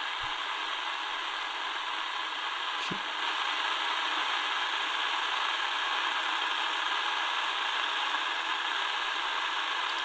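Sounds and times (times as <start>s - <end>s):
shortwave radio static hissing: 0.0s - 9.9s.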